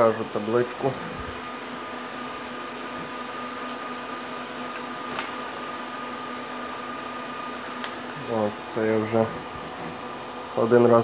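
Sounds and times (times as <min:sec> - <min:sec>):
equipment and cooling fans humming: 0:00.0 - 0:11.0.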